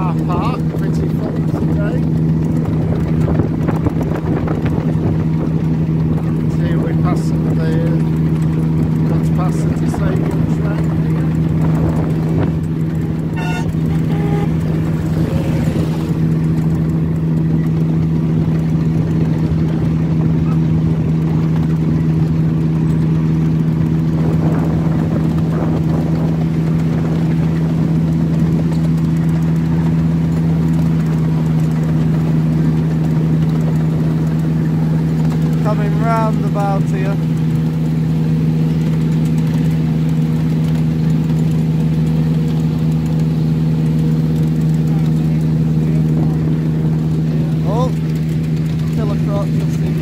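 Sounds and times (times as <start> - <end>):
diesel locomotive engine droning: 4.6 - 50.0.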